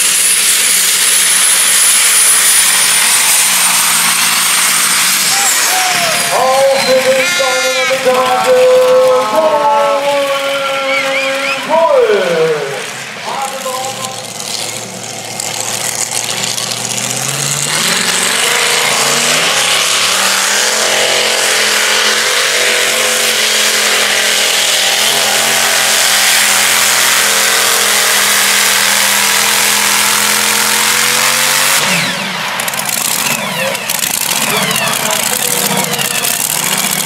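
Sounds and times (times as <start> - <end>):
tractor engine at full throttle: 0.0 - 37.0.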